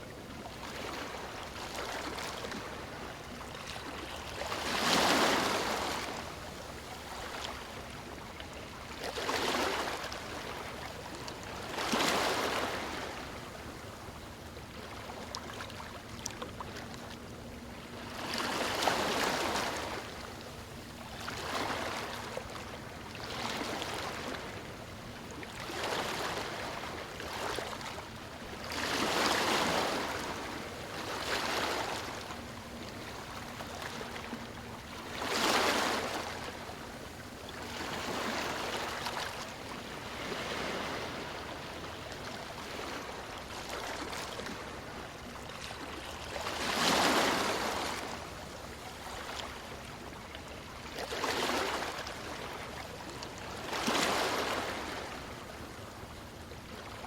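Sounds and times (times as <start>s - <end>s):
small waves on a stony shore: 0.0s - 57.0s.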